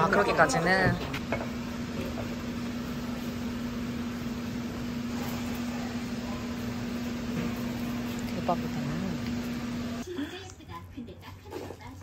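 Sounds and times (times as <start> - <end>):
machine hum: 0.0 - 10.1.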